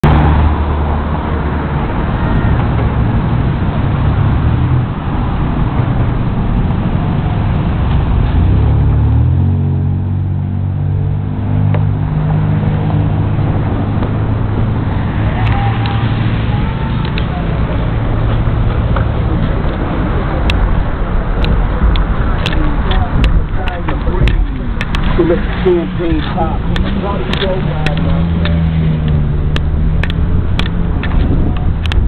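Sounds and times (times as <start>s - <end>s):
cars driving past: 0.0s - 32.0s
low engine hum: 0.0s - 32.0s.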